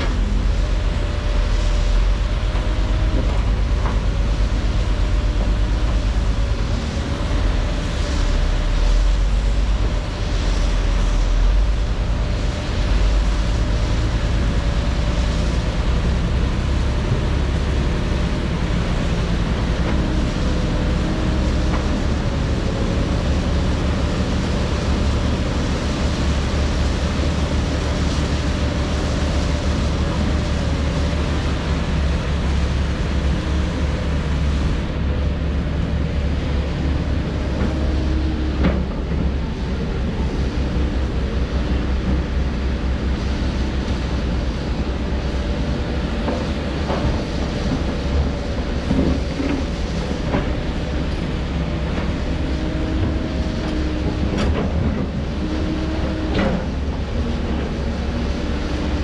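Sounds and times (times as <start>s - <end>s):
diesel machinery engine rumble: 0.0s - 59.0s.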